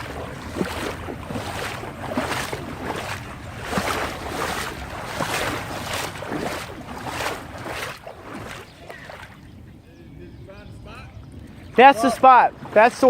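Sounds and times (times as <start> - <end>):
water rushing: 0.0 - 9.5, 11.6 - 13.0
floodwater splashing and sloshing: 0.0 - 9.8, 11.2 - 13.0.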